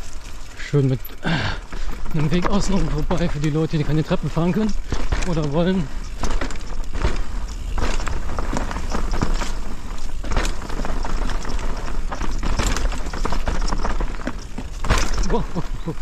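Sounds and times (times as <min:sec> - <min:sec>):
bike rattling over bumps: 0:00.0 - 0:16.0
bike tyres on dirt trail: 0:00.0 - 0:16.0.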